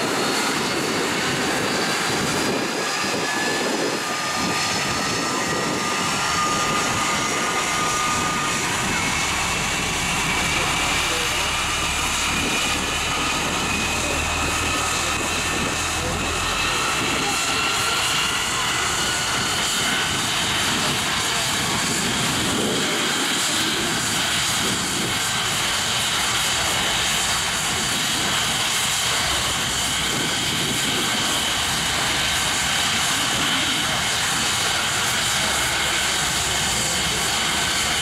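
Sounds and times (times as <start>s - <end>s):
jet engine whine: 0.0s - 38.0s.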